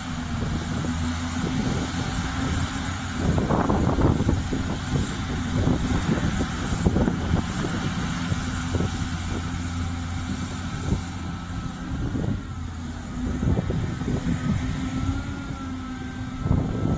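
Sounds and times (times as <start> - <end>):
low machine hum: 0.0 - 16.9.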